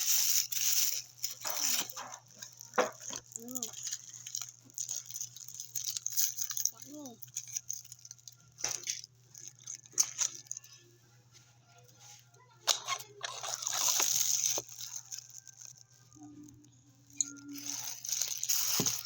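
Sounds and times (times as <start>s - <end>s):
crunching and chewing: 0.0s - 10.9s, 12.7s - 19.0s
crinkling rustling: 0.0s - 19.0s.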